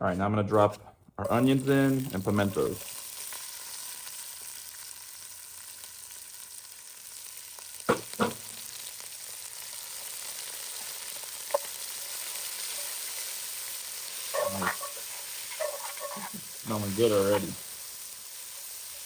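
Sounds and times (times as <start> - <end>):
onions sizzling in oil: 1.3 - 19.0.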